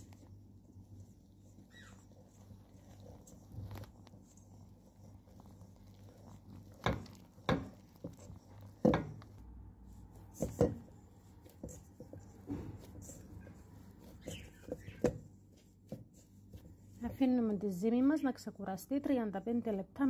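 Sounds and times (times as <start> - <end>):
hands kneading dough: 0.0 - 20.0.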